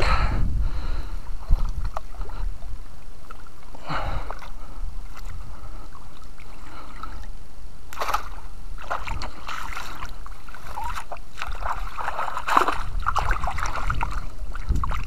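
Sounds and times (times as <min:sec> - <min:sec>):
steady low rumble: 0:00.0 - 0:15.0
water splashing and sloshing: 0:00.0 - 0:15.0.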